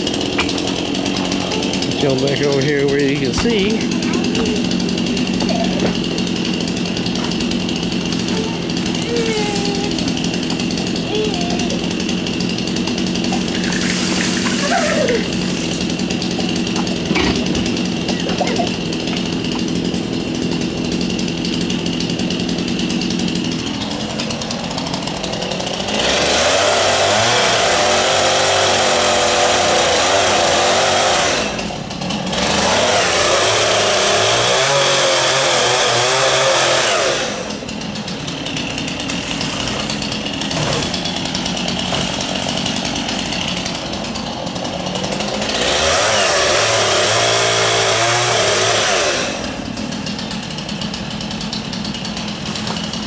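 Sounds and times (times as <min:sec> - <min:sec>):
chainsaw idling and cutting wood: 0:00.0 - 0:53.0.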